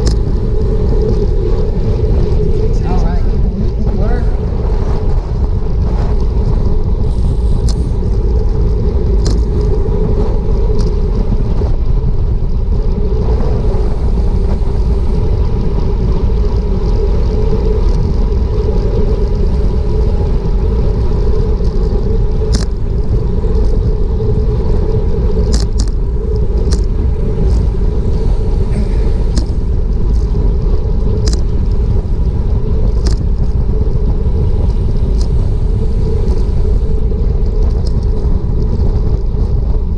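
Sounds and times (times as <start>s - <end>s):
bicycle rolling on asphalt: 0.0s - 39.9s
wind buffeting microphone: 0.0s - 39.9s.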